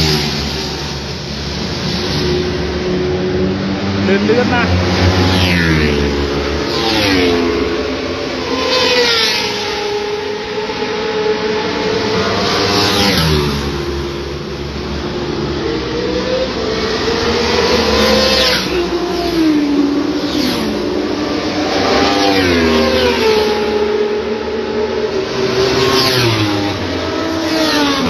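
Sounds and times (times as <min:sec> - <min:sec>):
racing motorcycle engines revving: 0:00.0 - 0:28.0.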